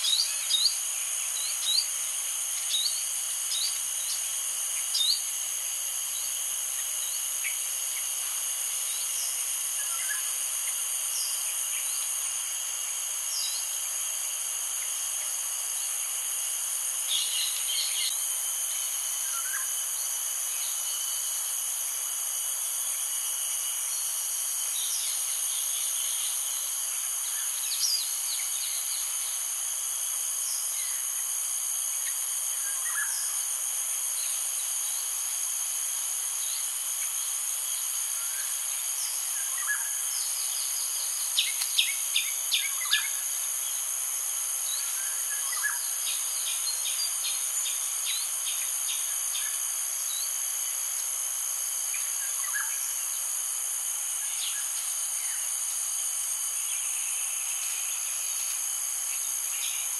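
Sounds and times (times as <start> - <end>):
insects ringing high-pitched: 0.0 - 59.9.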